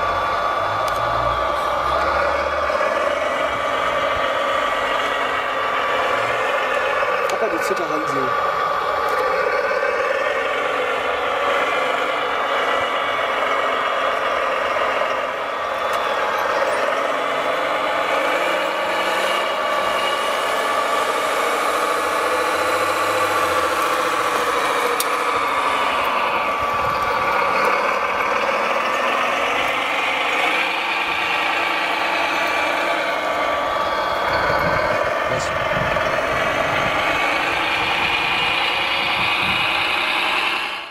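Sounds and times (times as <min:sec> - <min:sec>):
model machine motors whining: 0:00.0 - 0:40.9.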